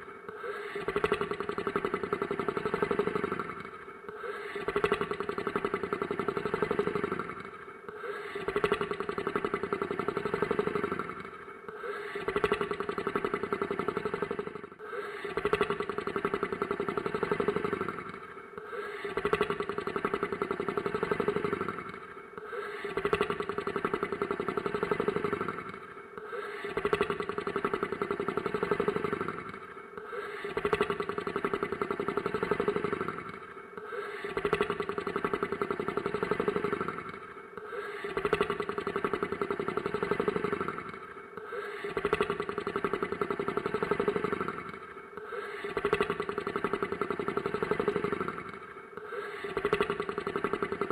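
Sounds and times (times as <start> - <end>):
rattling monster snore: 0.0 - 50.9.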